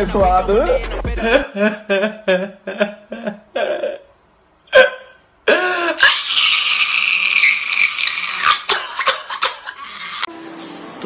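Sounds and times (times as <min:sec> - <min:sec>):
man crying and wailing: 0:00.0 - 0:09.8.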